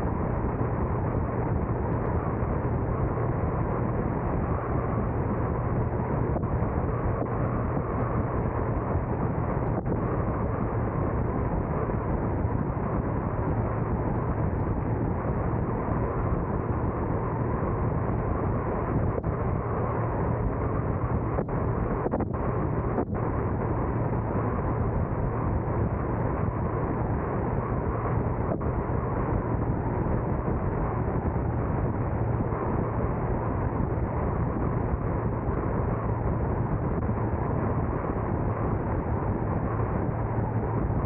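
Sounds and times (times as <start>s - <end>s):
car driving: 0.0s - 41.0s.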